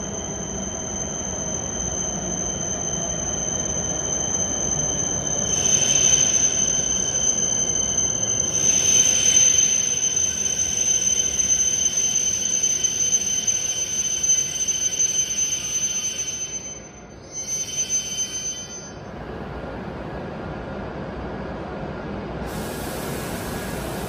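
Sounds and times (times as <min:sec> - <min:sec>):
high-pitched whine: 0:00.0 - 0:19.9
train pulling into station: 0:00.0 - 0:24.0.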